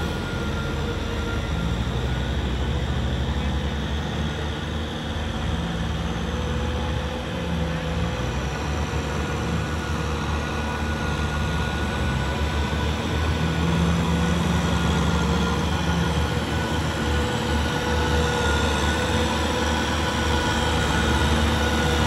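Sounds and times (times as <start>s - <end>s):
tractor diesel engine drone: 0.0s - 22.0s.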